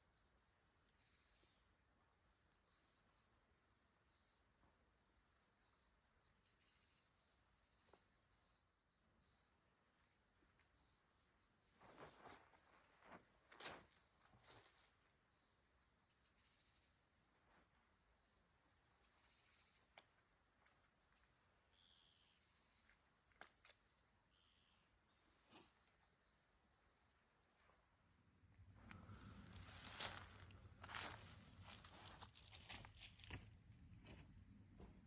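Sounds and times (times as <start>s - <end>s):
insects trilling: 5.3s - 35.0s.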